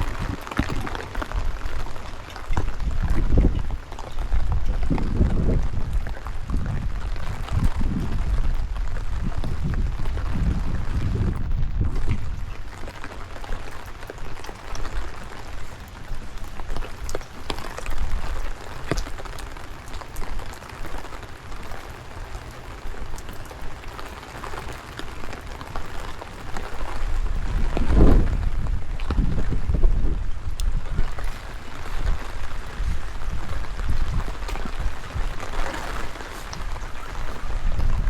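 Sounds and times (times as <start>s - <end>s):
steady rain: 0.0s - 38.0s
wind gusts on microphone: 0.0s - 38.0s.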